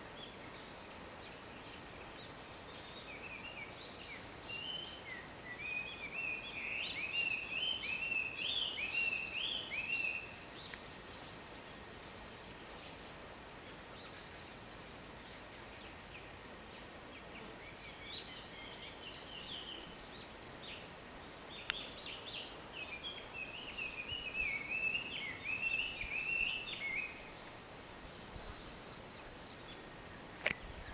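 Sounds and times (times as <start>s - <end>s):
songbird singing: 0.0s - 11.7s, 15.2s - 30.9s
steady high hiss: 0.0s - 30.9s.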